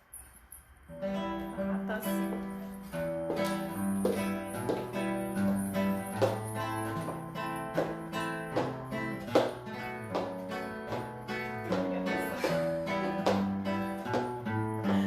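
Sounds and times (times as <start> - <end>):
acoustic guitar strumming: 0.9 - 15.0.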